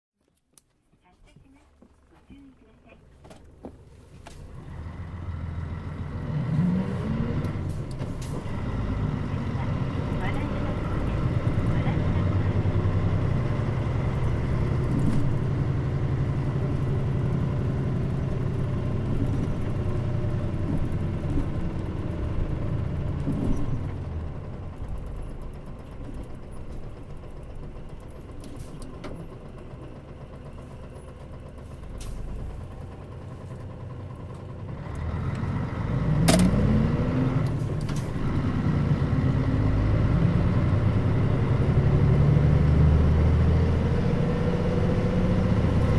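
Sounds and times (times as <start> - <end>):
bus diesel engine running: 0.7 - 45.9
rising engine whine: 4.3 - 45.9.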